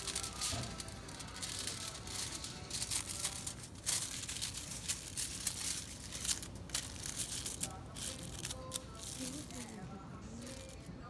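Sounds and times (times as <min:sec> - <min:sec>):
foil crinkling: 0:00.0 - 0:11.0.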